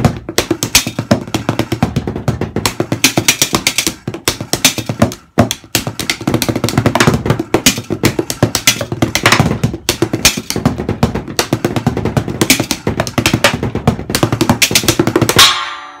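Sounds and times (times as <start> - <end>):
drumsticks on cardboard boxes: 0.0 - 15.8.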